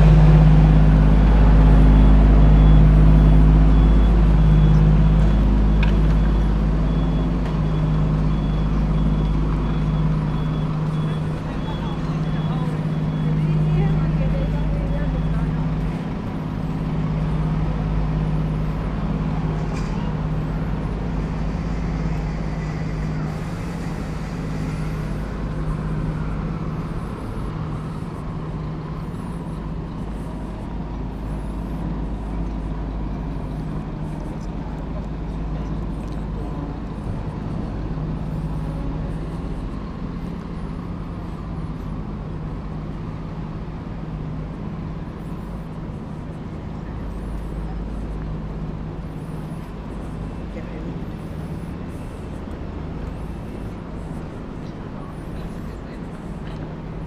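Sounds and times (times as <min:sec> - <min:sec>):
constant low drone: 0:00.0 - 0:57.0
traffic hum: 0:00.0 - 0:57.0.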